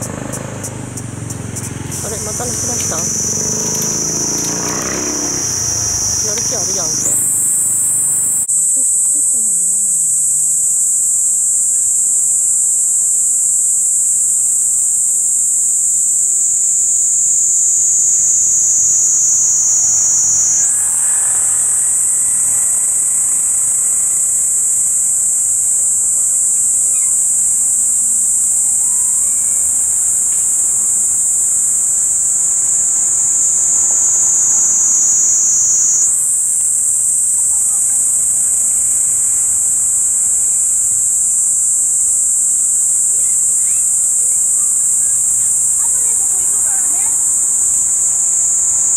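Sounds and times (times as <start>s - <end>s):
cicada buzzing: 0.0s - 48.9s.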